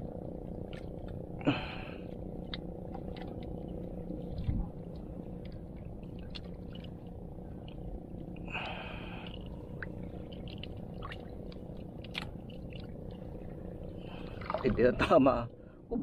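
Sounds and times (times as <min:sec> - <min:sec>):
low rumble with faint hum: 0:00.0 - 0:16.0.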